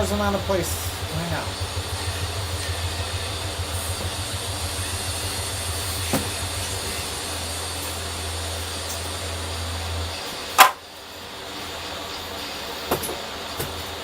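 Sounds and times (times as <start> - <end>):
low machine hum with hiss: 0.0 - 14.0.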